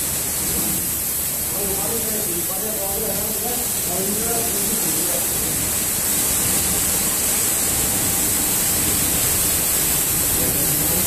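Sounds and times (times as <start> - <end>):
carpet washing machine hissing: 0.0 - 11.0.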